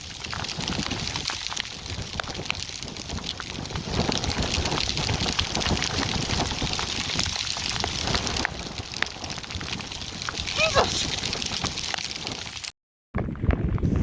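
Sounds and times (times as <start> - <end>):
hailstones ticking: 0.0 - 12.7
heavy rain hissing: 0.0 - 12.7.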